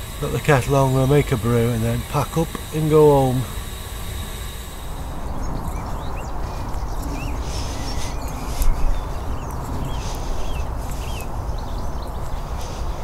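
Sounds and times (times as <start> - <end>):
low wind rumble: 0.0 - 13.0
small birds chirping: 0.0 - 13.0.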